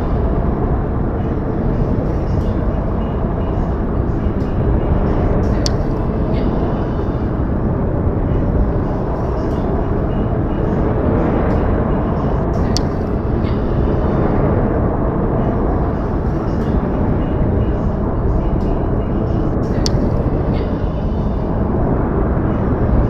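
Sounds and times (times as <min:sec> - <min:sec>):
low rushing noise: 0:00.0 - 0:23.0.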